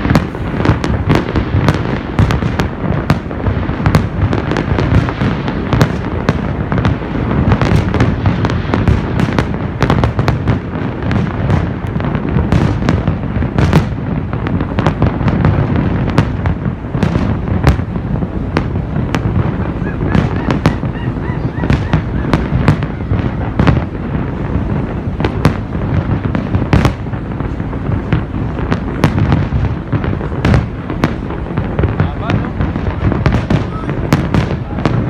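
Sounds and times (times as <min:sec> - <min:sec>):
fireworks booming and crackling: 0:00.0 - 0:35.0.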